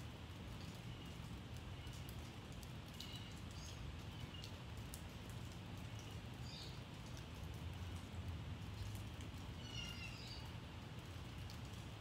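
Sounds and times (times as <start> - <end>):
rain dripping from roof edge: 0.0 - 12.0.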